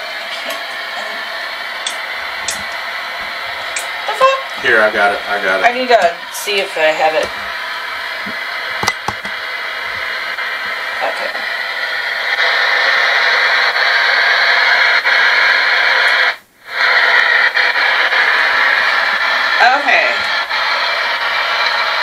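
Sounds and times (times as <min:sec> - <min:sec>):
radio static: 0:00.0 - 0:22.0.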